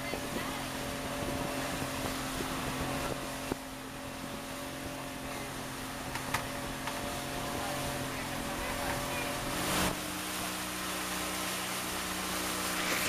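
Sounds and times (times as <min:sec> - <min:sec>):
boat engine running: 0:00.0 - 0:13.0
wind and water rushing: 0:00.0 - 0:13.0.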